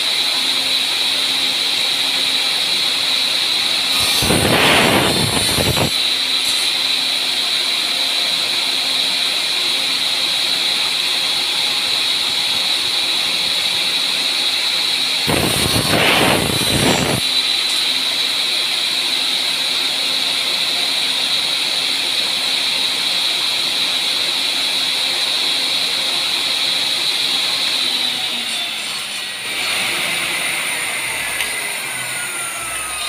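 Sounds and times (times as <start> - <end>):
high-pitched saw whine: 0.0 - 33.0
miter saw cutting wood: 0.0 - 33.0.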